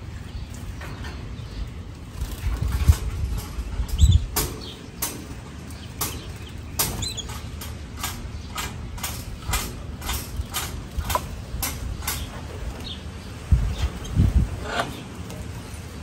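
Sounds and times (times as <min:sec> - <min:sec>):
canaries chirping: 0:00.0 - 0:16.0.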